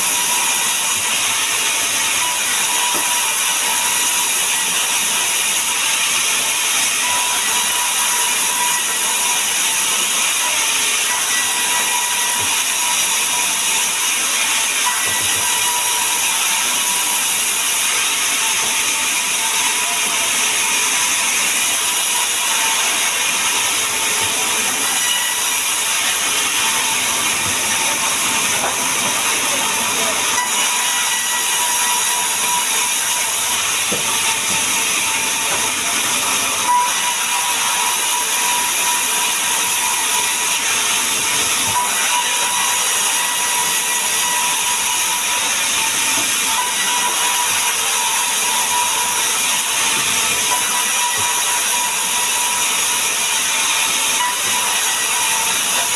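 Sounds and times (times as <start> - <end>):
woodworking power machine running: 0.0 - 55.9.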